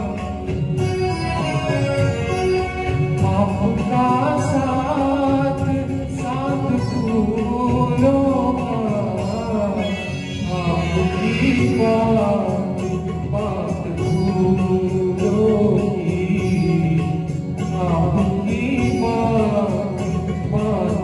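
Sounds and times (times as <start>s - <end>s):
duet singing into microphones: 0.0s - 21.0s
instrumental accompaniment: 0.0s - 21.0s.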